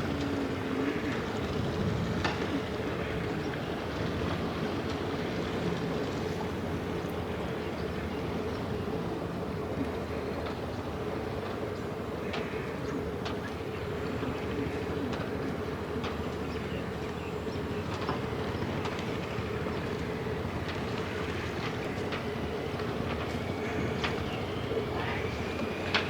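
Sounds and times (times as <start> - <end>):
constant hum: 0.0 - 26.0.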